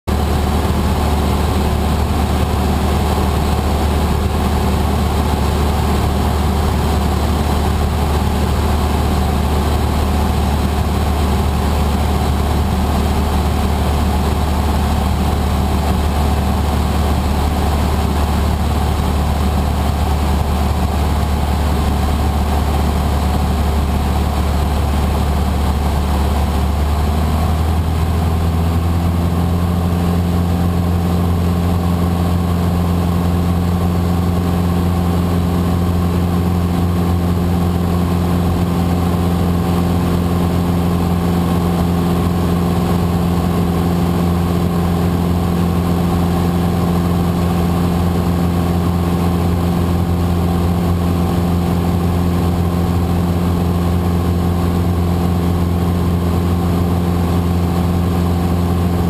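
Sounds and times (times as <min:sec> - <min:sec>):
propeller airplane engine drone: 0:00.0 - 0:59.0.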